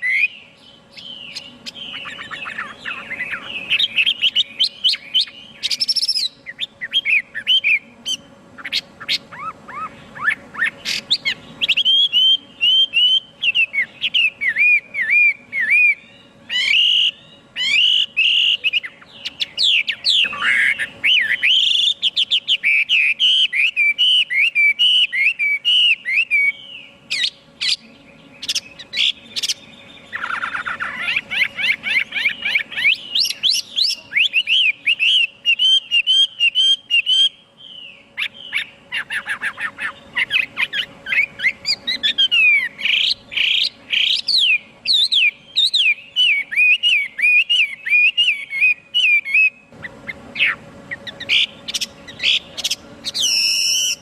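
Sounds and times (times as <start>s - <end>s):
bird singing whistled notes: 0.0s - 54.0s
faint steady hum: 0.0s - 54.0s.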